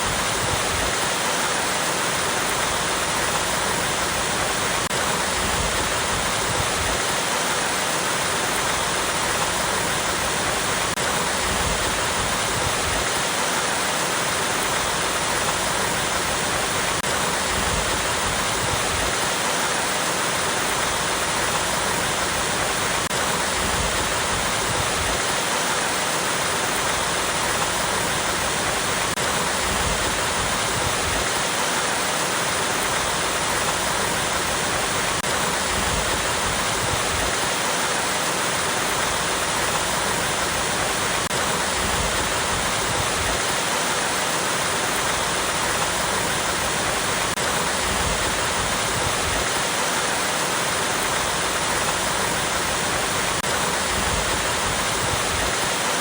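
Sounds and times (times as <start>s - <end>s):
waterfall pouring over rocks: 0.0s - 56.0s.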